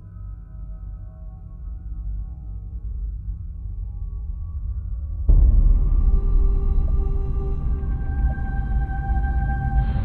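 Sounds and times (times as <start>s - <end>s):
eerie ambient drone music: 0.0s - 10.0s.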